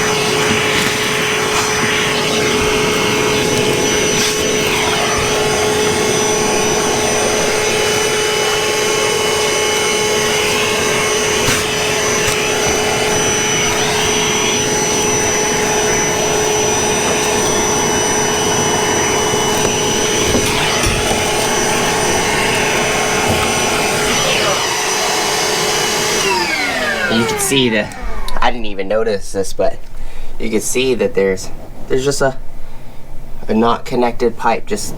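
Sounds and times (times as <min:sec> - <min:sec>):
shop vac whining: 0:00.0 - 0:29.5.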